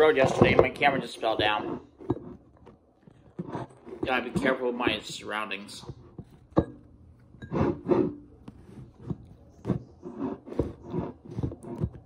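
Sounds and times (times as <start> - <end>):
fingers rubbing on camera body: 0.0 - 6.5, 7.5 - 12.0.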